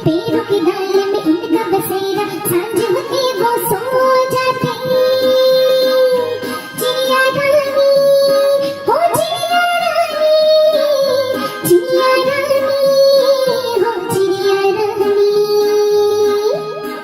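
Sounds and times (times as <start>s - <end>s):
child-like voice singing: 0.0s - 17.0s
synthesized backing track: 0.0s - 17.0s.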